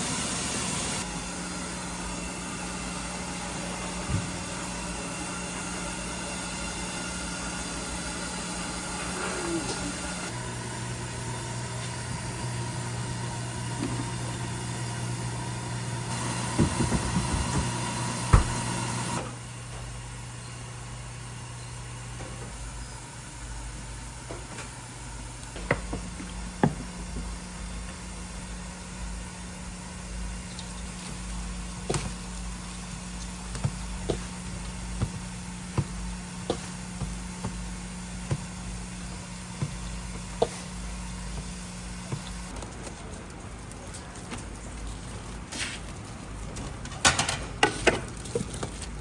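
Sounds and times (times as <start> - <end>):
low equipment hum: 0.0 - 49.0.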